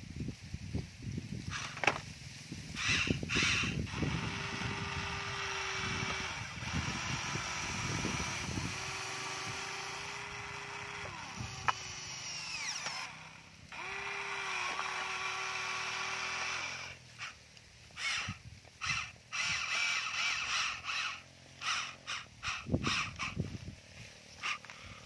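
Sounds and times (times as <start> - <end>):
toy electric motors whining: 1.4 - 2.1, 2.7 - 25.0.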